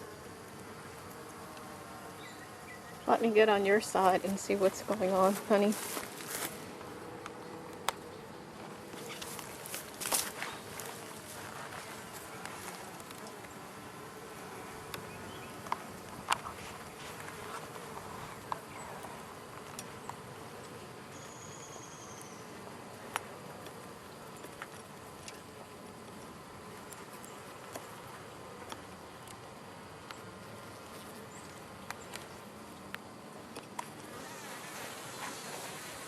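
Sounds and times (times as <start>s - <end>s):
honey bees humming: 0.0s - 36.0s.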